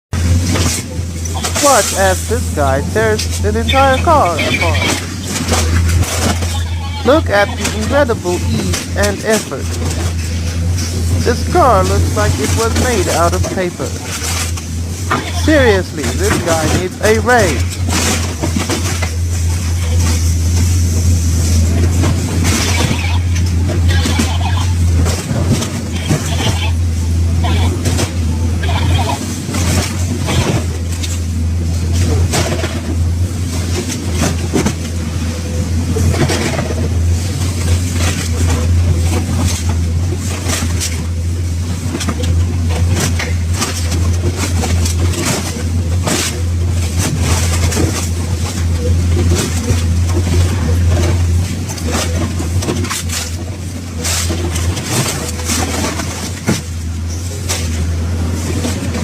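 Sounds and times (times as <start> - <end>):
heavy engine droning: 0.2 - 59.0.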